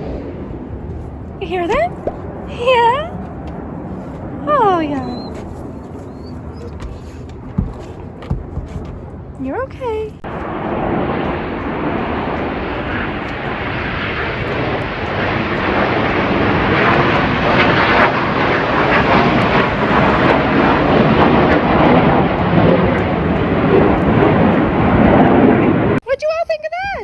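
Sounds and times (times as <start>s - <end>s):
jets passing overhead: 0.0s - 26.0s.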